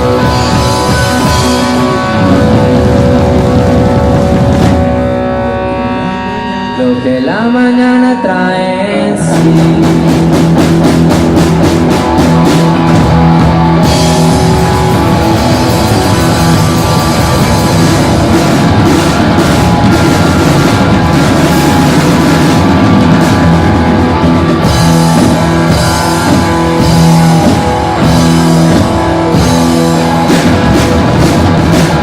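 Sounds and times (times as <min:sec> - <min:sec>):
drum and cymbal hits: 0:00.0 - 0:05.4, 0:09.3 - 0:32.0
held guitar notes ringing: 0:00.0 - 0:32.0
live rock band playing: 0:00.0 - 0:32.0.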